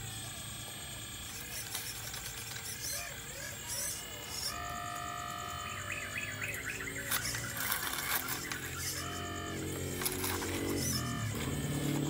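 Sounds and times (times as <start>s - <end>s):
birds chirping: 0.0s - 12.0s
hydraulic pump whining: 0.0s - 12.0s.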